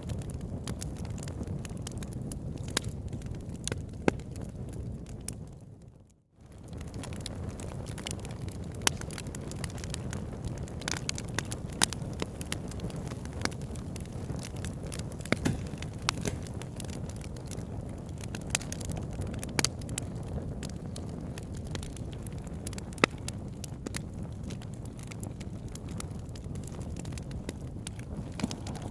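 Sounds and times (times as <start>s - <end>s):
fire crackles and pops: 0.0s - 28.9s
wood fire rumbling: 0.0s - 28.9s.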